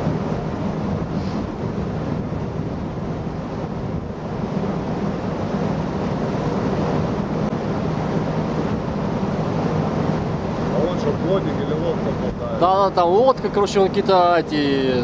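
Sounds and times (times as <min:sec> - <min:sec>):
ship engine hum: 0:00.0 - 0:15.0
wind buffeting microphone: 0:00.0 - 0:15.0.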